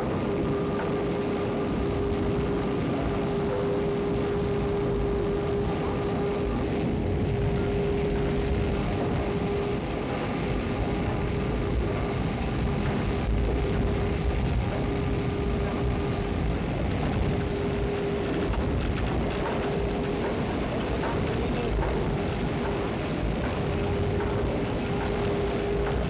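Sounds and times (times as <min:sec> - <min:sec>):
heavy rumble: 0:00.0 - 0:26.0
winch whine: 0:00.0 - 0:26.0.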